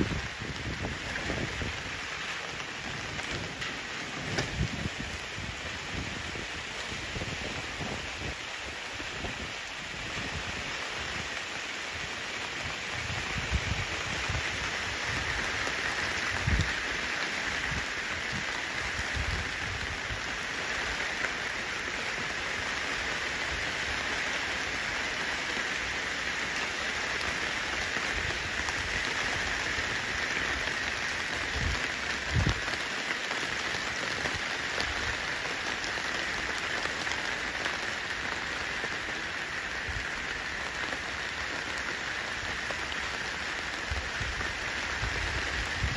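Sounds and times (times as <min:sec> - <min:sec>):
rain on wet pavement: 0:00.0 - 0:45.9.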